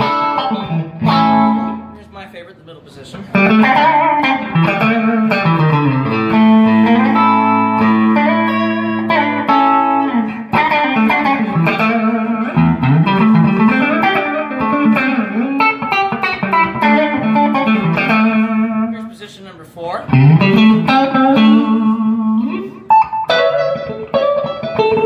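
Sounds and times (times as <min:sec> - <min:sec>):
clean electric guitar: 0:00.0 - 0:02.3, 0:03.1 - 0:19.2, 0:20.0 - 0:25.0.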